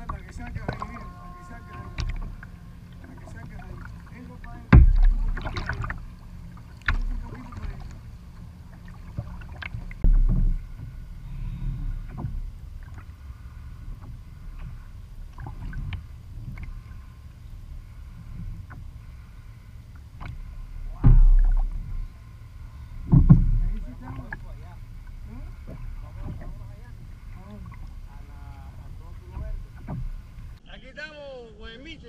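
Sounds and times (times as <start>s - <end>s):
waves slapping plastic hull: 0.0s - 13.2s, 13.9s - 17.0s, 19.9s - 22.2s, 22.8s - 30.6s
low rumble of water: 0.0s - 32.0s.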